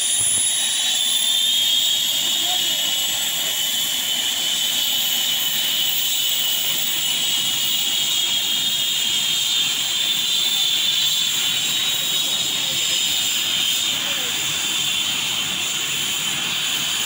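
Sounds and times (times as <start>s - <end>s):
helicopter rotor noise: 0.0s - 17.0s
helicopter turbine whine: 0.0s - 17.0s.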